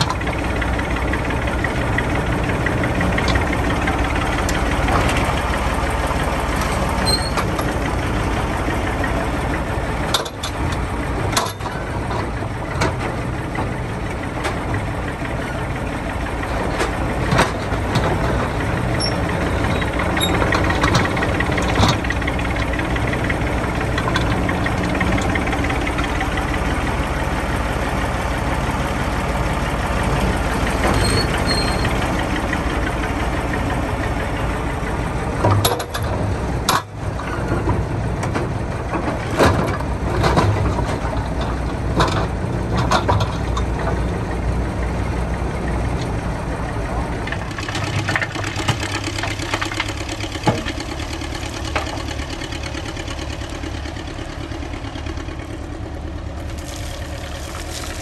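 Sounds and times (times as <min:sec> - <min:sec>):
shovel engine running: 0:00.0 - 0:58.0.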